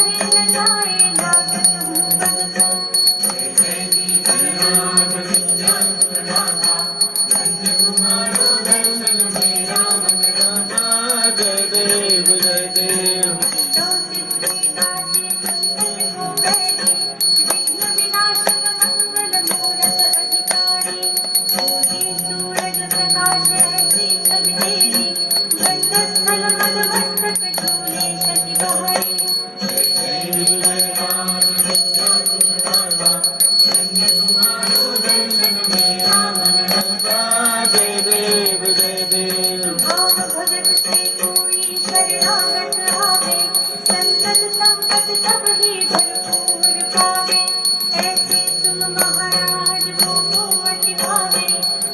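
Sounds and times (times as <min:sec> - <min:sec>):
bells jingling and ringing: 0:00.0 - 0:51.9
devotional music: 0:00.0 - 0:51.9.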